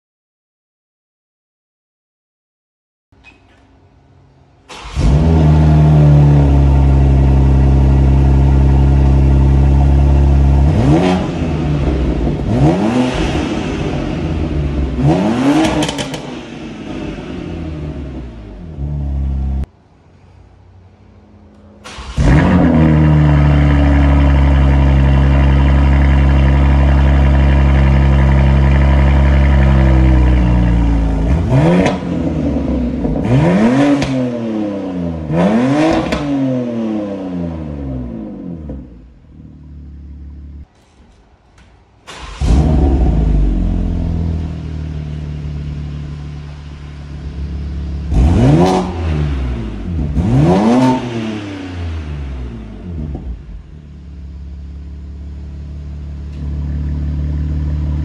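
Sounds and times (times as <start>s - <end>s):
car engine idling: 3.8s - 33.4s, 38.0s - 51.0s, 52.0s - 58.0s
car engine rev blips: 4.7s - 19.7s, 21.5s - 40.7s, 42.1s - 58.0s.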